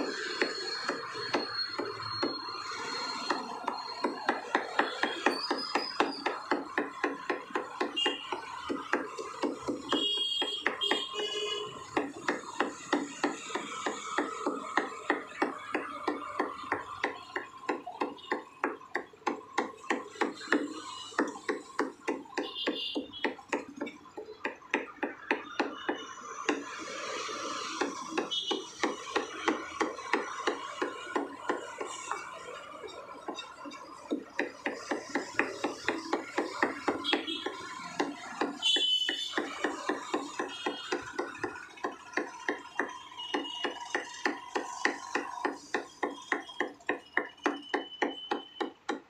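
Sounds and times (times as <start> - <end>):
cleaver chopping on wooden block: 0.0 - 11.1, 11.7 - 49.0.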